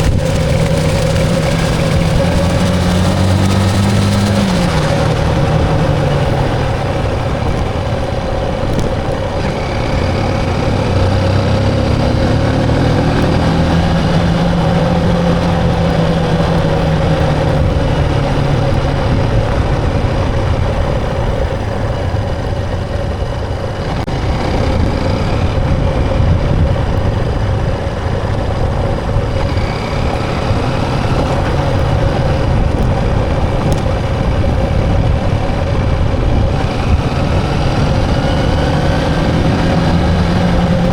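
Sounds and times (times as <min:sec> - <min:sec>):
lower engine note: 0:00.0 - 0:40.9
motorbike engine running: 0:00.0 - 0:40.9
road noise: 0:00.0 - 0:40.9.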